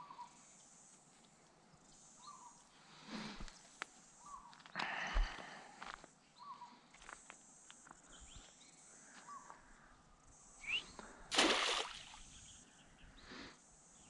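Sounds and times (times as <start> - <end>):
faint bird chirps: 0.0 - 2.8, 3.5 - 5.4, 6.3 - 7.0, 7.6 - 14.0.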